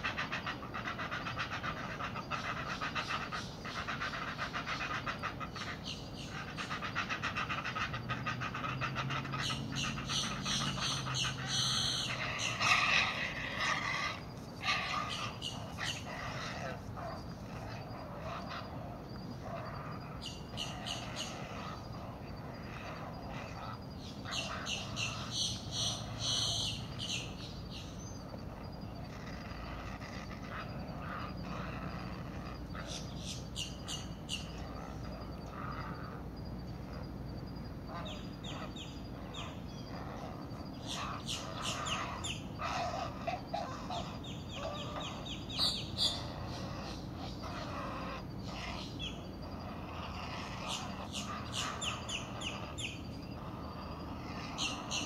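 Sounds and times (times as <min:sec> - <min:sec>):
heron chicks begging calls: 0:00.0 - 0:28.0, 0:29.0 - 0:36.2, 0:37.9 - 0:55.0.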